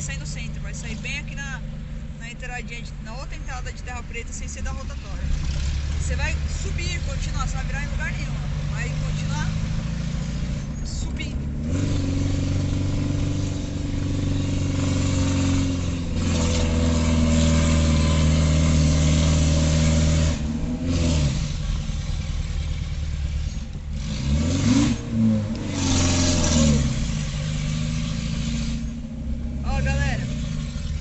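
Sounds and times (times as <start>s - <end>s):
car engine pulling uphill: 0.0s - 31.0s
road noise: 0.0s - 31.0s.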